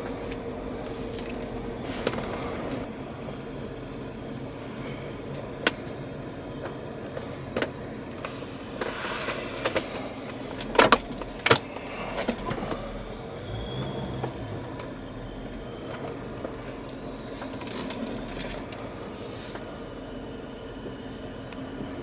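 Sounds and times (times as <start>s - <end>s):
car hum: 0.0s - 22.0s.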